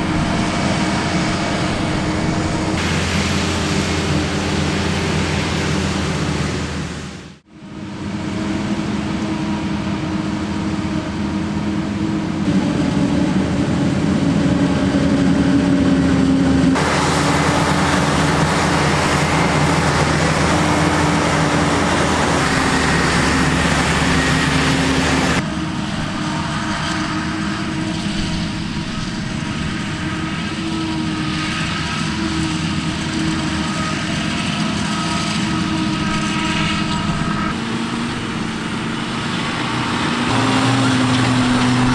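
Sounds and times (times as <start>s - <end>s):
harvester engine running under load: 0.0s - 41.9s.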